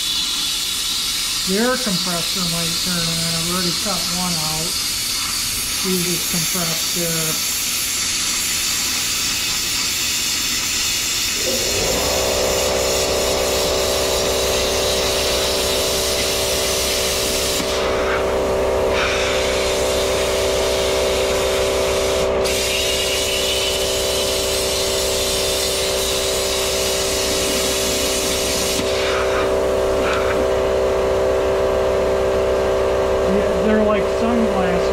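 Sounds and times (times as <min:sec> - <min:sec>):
plasma cutter torch hissing: 0:00.0 - 0:30.4
air compressor humming: 0:00.0 - 0:34.9.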